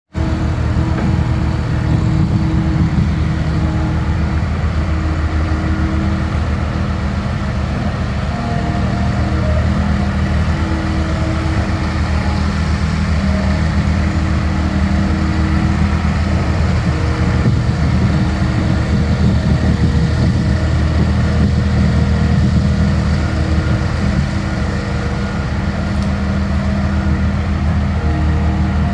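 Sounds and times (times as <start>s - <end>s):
loader diesel engine running: 0.1s - 28.9s.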